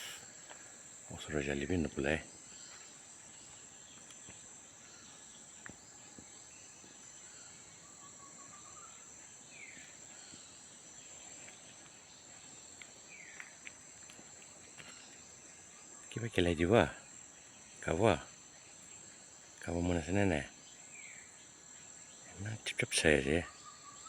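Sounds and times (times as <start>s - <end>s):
high insect drone: 0.0s - 24.0s
bird chirps: 1.1s - 13.6s, 14.8s - 24.0s.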